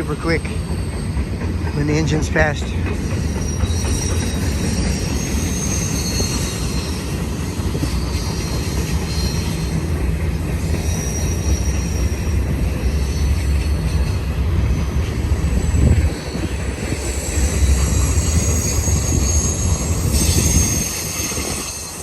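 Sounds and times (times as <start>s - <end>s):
high wheel squeals: 0.0s - 22.0s
train wheels rumbling on rail: 0.0s - 22.0s.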